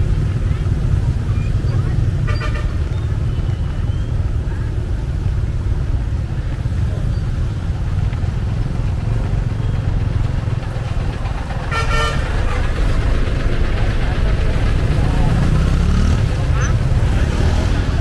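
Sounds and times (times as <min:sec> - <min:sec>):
traffic rumble on road: 0:00.0 - 0:18.0.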